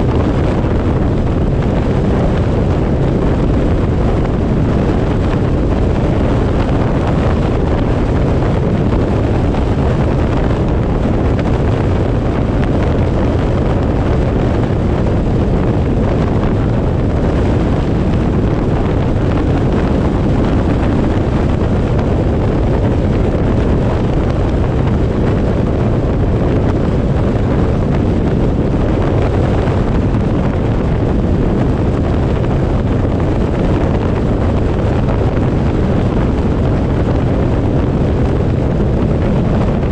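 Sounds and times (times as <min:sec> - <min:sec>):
vehicle road noise: 0:00.0 - 0:39.9
wind buffeting microphone: 0:00.0 - 0:39.9.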